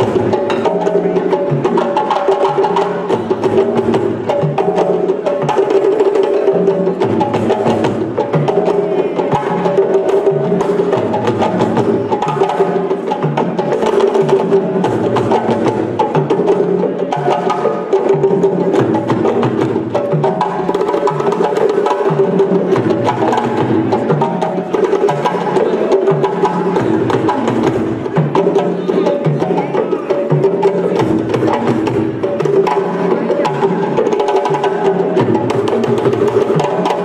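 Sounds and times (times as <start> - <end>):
drum ensemble playing: 0.0 - 37.0.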